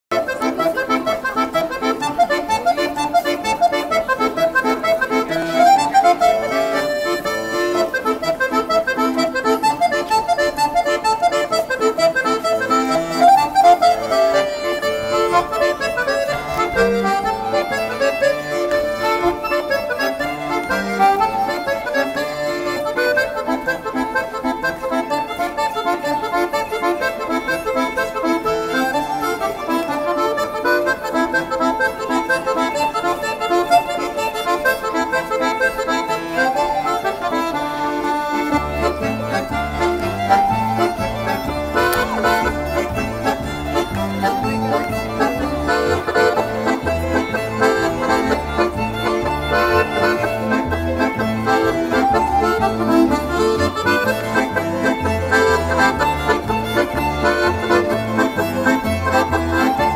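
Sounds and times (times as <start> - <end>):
instrumental court-dance music: 0.1 - 59.9.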